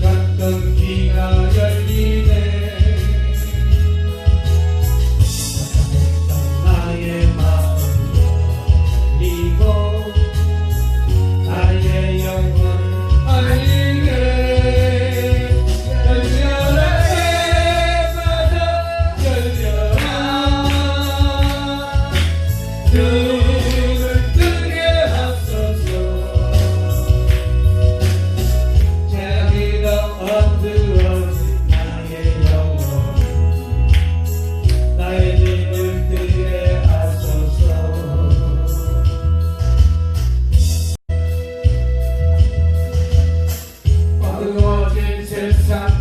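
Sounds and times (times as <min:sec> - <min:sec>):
person singing gospel song: 0:00.0 - 0:04.3, 0:05.7 - 0:40.1, 0:44.1 - 0:46.0
instrumental accompaniment with bass: 0:00.0 - 0:46.0.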